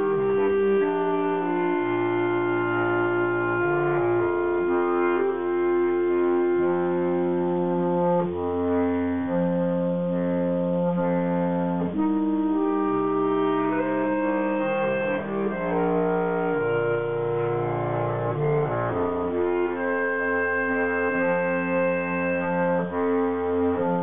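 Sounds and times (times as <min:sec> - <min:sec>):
bass clarinets playing held chords: 0:00.0 - 0:24.0.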